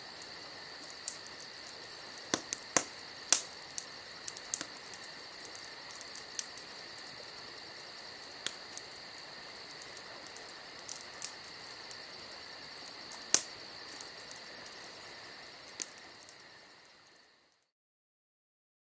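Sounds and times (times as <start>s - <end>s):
crickets chirping: 0.0s - 17.7s.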